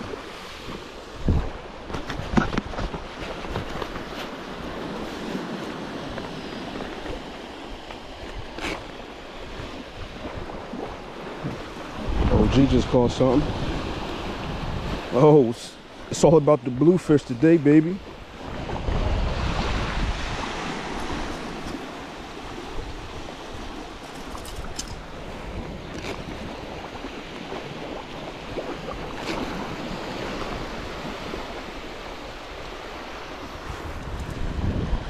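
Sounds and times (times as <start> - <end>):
small waves lapping on sand: 0.0 - 35.0
wind rumbling on microphone: 0.0 - 35.0.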